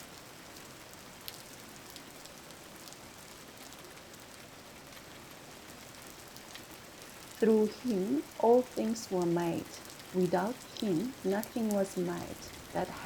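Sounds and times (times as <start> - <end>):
rain drops ticking: 0.0 - 13.0
steady rain falling: 0.0 - 13.0.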